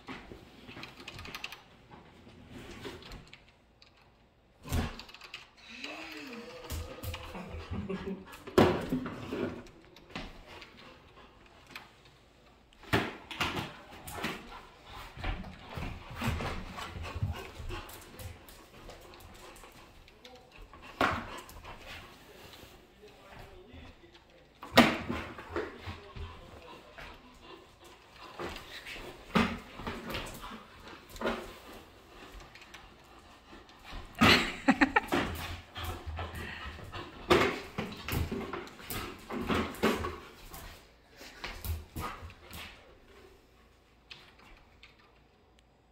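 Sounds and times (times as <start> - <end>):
dog play noises: 0.0 - 45.9
paws on wooden floor: 6.3 - 45.3.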